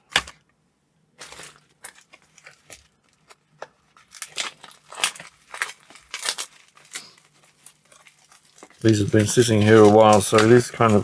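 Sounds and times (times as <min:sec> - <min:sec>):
plastic packaging crinkling and tearing: 0:01.2 - 0:11.0.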